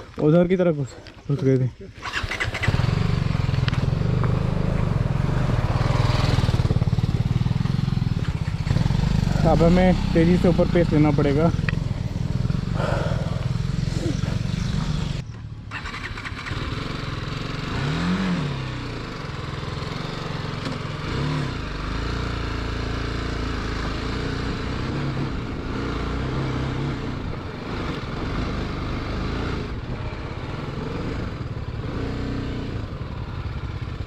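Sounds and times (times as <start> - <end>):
motorcycle engine revving: 1.9 - 34.0.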